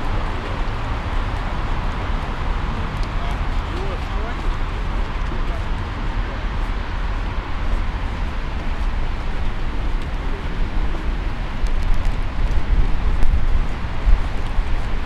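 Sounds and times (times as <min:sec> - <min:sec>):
traffic going by: 0:00.0 - 0:15.0.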